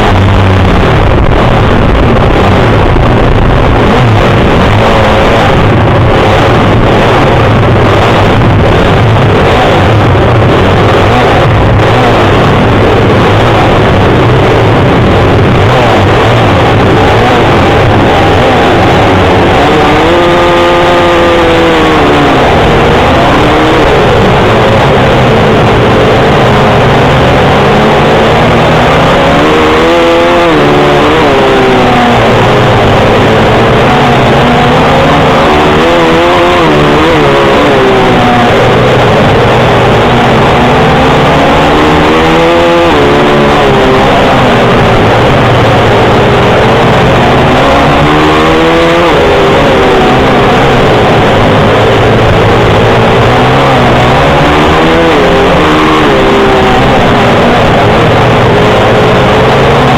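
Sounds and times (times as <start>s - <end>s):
motorcycle engines racing: 0.0s - 59.9s.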